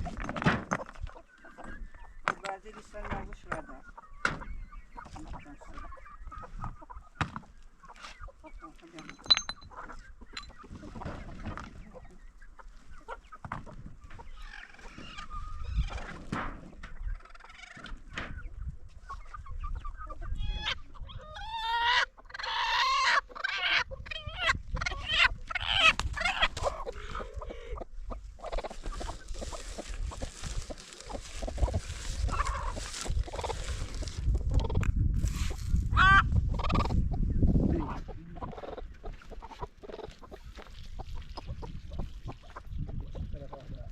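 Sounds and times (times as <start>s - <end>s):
chickens clucking and squawking: 0.0s - 43.9s.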